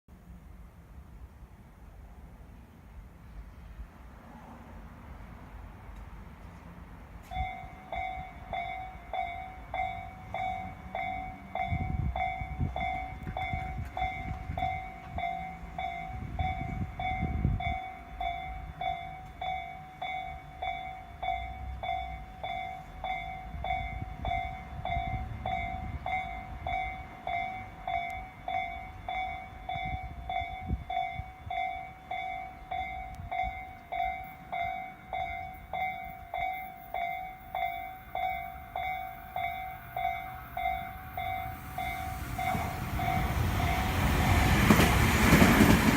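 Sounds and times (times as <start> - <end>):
train rumbling past: 0.2 - 45.9
level crossing warning bell: 7.2 - 45.7.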